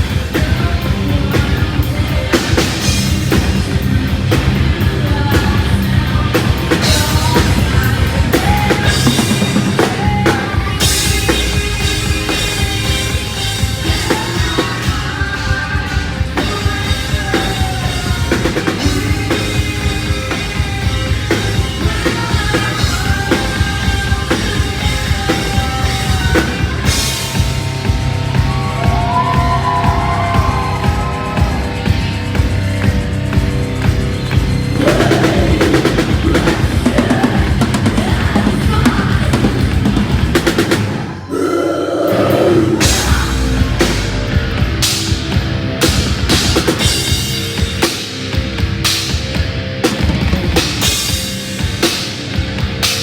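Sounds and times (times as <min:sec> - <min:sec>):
heavy metal band playing: 0:00.0 - 0:53.0.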